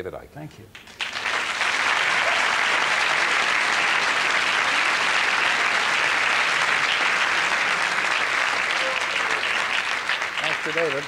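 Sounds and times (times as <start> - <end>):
audience applauding: 0.7 - 11.0.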